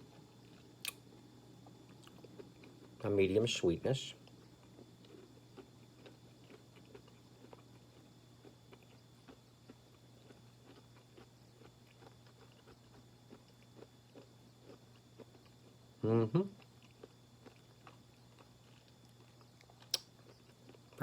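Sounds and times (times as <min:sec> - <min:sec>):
low steady hum: 0:00.0 - 0:21.0
chewing granola bar: 0:01.6 - 0:03.1, 0:04.2 - 0:21.0.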